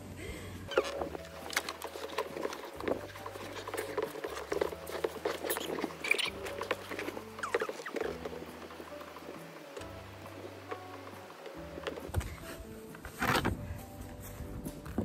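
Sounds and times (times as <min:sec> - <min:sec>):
scuffs scrapes and knocks: 0:00.7 - 0:15.0.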